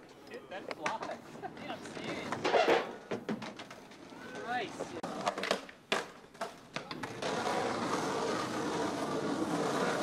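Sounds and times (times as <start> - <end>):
skateboard wheels rolling on asphalt: 0.0 - 10.0
skateboard clacking on curb: 0.8 - 10.0.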